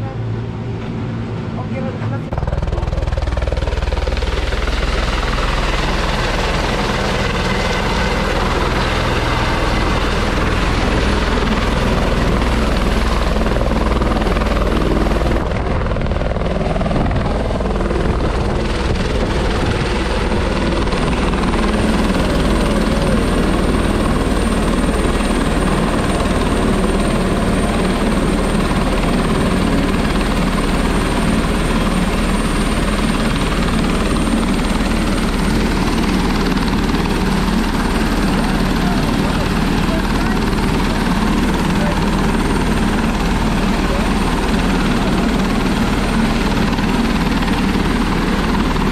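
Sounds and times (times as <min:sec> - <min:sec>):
helicopter high whine: 0:00.0 - 0:48.9
helicopter rotor beating: 0:00.5 - 0:48.9.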